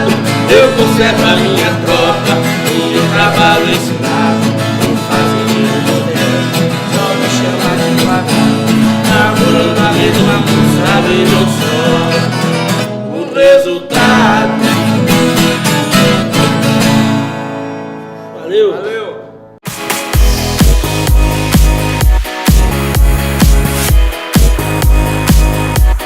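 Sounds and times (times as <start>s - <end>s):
fast plucked and strummed guitar: 0.0s - 18.1s, 19.7s - 26.0s.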